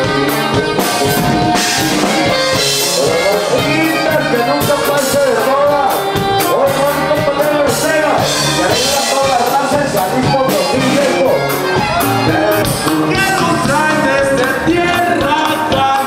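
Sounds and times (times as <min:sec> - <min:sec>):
latin band music: 0:00.0 - 0:16.0
steady drum beat: 0:00.0 - 0:16.0
person singing: 0:00.1 - 0:16.0.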